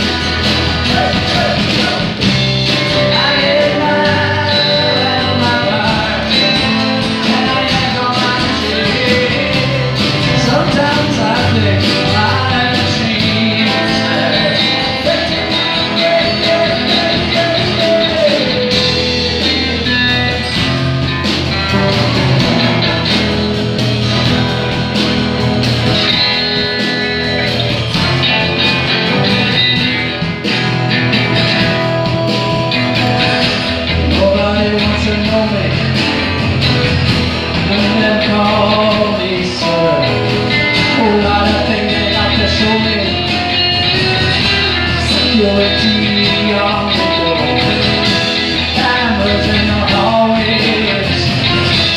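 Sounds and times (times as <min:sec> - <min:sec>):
bending held guitar notes: 0:00.0 - 0:51.9
rock band playing live: 0:00.0 - 0:51.9.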